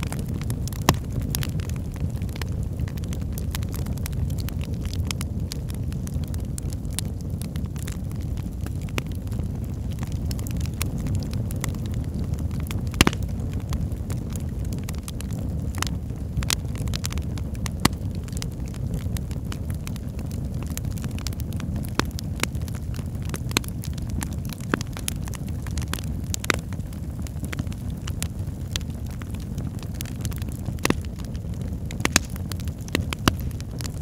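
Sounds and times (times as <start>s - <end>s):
low rush of flames: 0.0s - 34.0s
wood fire crackling: 0.0s - 34.0s.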